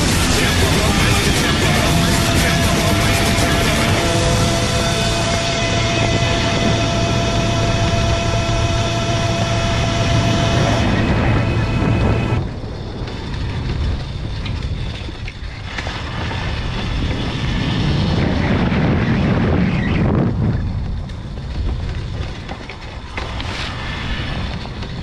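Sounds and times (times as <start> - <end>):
bike tyre noise on dirt: 0.0 - 25.0
wind buffeting microphone: 0.0 - 25.0.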